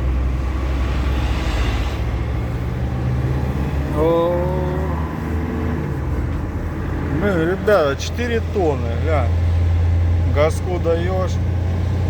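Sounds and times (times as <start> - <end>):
diesel van engine from cab: 0.0 - 12.0.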